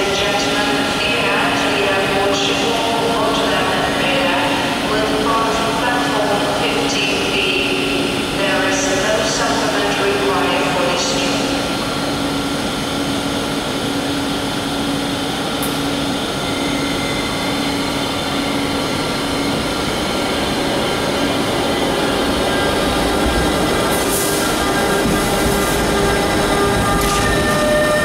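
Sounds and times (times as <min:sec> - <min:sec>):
electric locomotive hum: 0:00.0 - 0:28.0.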